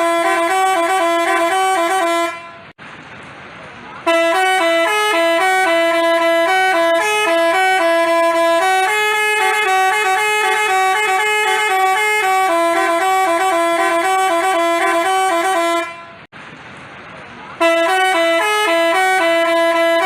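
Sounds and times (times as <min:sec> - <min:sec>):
musical bus horn tune: 0:00.0 - 0:02.8, 0:04.0 - 0:16.3, 0:17.6 - 0:20.0.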